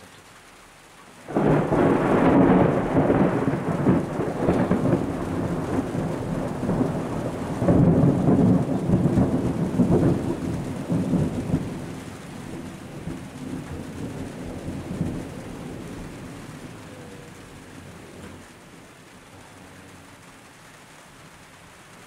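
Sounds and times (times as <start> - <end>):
thunder rumbling: 1.2 - 22.0.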